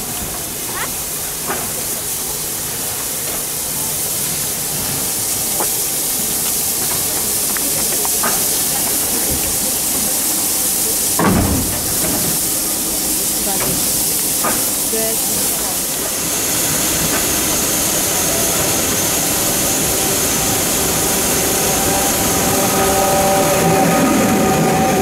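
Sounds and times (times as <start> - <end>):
heavy steam burst: 0.0 - 25.0
steam locomotive venting steam: 0.0 - 25.0.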